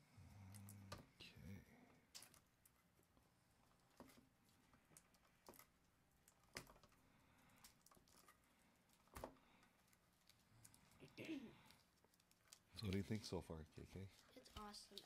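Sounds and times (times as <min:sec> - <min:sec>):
plastic wrap crinkling: 0:02.1 - 0:15.0.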